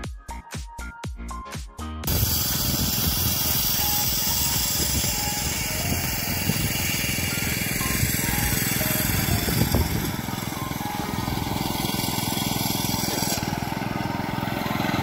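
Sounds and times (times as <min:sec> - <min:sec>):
core drilling machine engine: 0:02.1 - 0:15.0.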